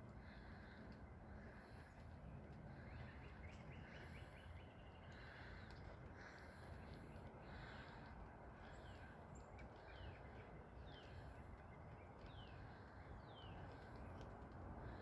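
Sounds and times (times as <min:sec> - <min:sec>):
faint bird calls: 0:00.0 - 0:15.0
low steady background noise: 0:00.0 - 0:15.0.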